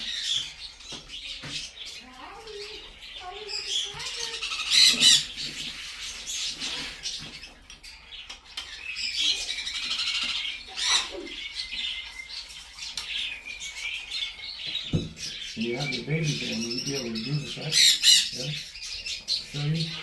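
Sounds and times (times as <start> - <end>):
baby parrots squawking: 0.0 - 20.0.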